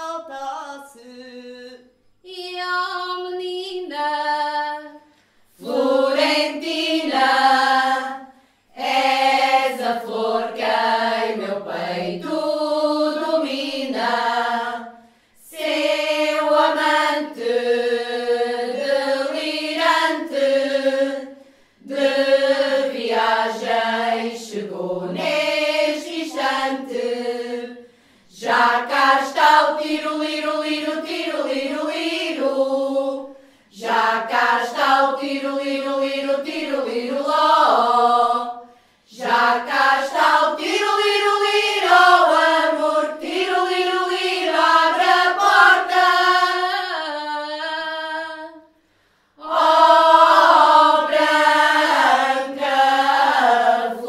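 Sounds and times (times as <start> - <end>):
women's choir singing a cappella: 0.0 - 54.0.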